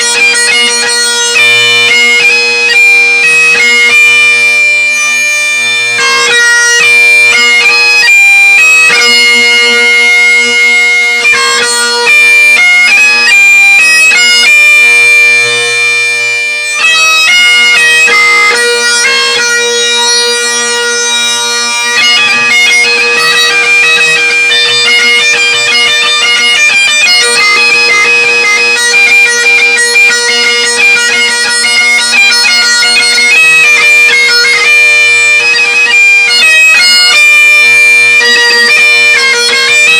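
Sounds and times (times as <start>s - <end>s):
bagpipe playing solo: 0.0s - 39.9s.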